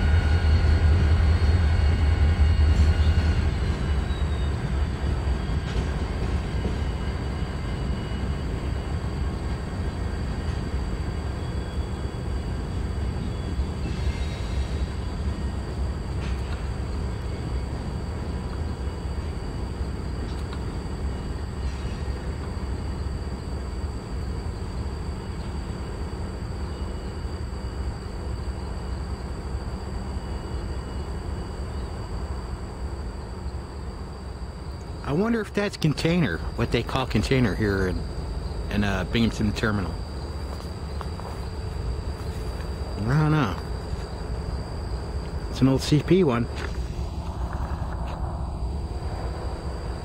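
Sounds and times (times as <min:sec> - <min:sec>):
diesel locomotives passing: 0:00.0 - 0:50.0.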